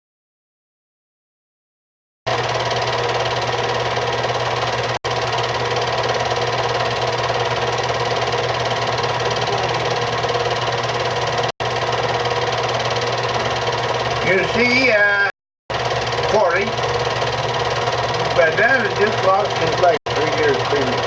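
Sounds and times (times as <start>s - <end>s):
film projector running: 2.3s - 21.0s.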